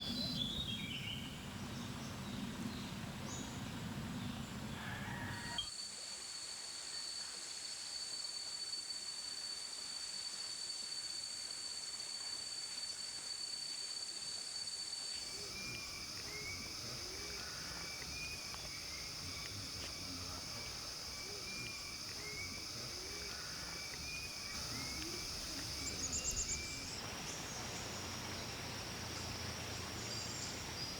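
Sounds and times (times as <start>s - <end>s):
high-pitched insect whine: 0.0s - 30.9s.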